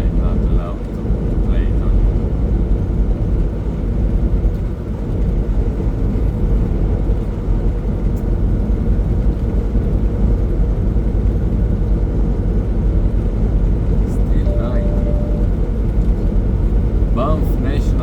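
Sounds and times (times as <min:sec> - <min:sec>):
truck engine and tyres droning: 0:00.0 - 0:18.0.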